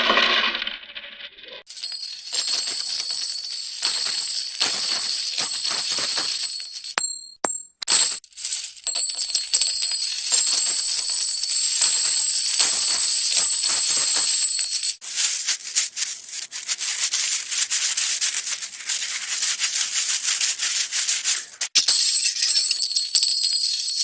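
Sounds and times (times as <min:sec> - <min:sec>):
coins jingling and clinking: 0:01.7 - 0:24.0.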